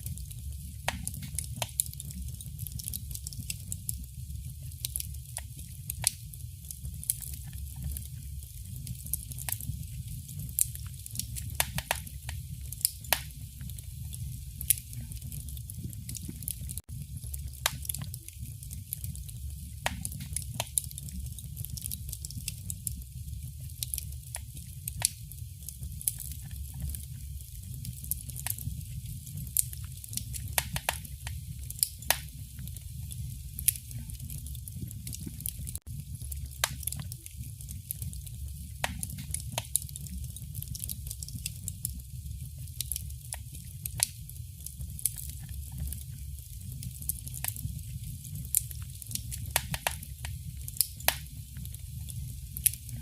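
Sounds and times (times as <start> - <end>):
low fire rumble: 0.0 - 53.0
wood fire crackling and popping: 0.0 - 53.0.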